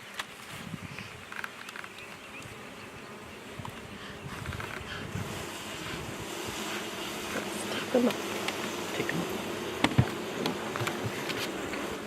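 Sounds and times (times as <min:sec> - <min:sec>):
bees buzzing: 0:01.2 - 0:12.0.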